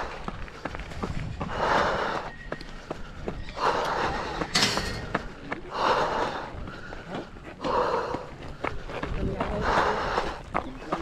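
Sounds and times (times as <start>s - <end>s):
person breathing heavily: 0.0s - 10.7s.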